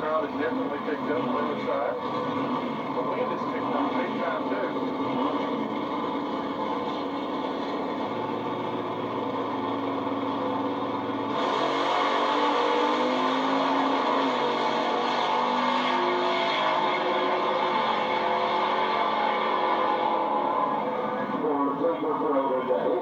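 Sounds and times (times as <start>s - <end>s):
racing engines revving: 0.0s - 23.0s.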